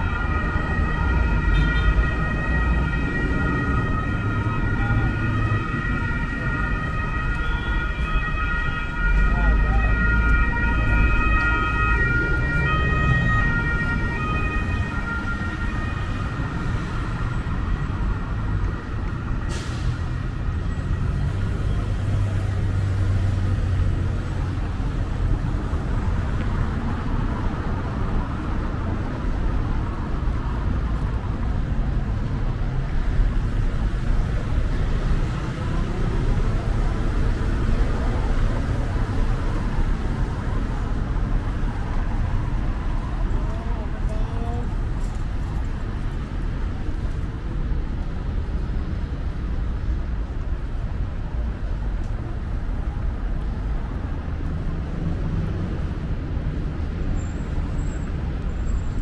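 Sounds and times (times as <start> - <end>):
city traffic rumble: 0.0 - 59.0
emergency vehicle siren: 0.0 - 59.0.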